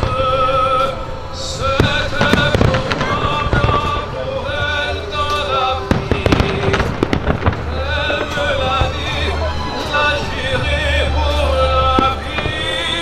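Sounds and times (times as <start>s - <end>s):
fireworks bangs and crackles: 0.0s - 13.0s
song with wavering singing voice: 0.0s - 13.0s.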